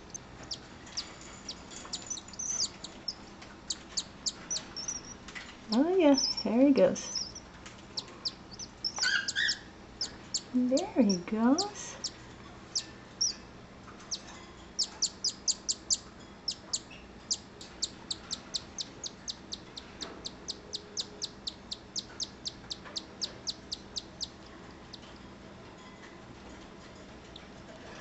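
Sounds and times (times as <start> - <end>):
chick begging peeps: 0.0 - 5.2, 6.0 - 13.4, 14.8 - 25.1.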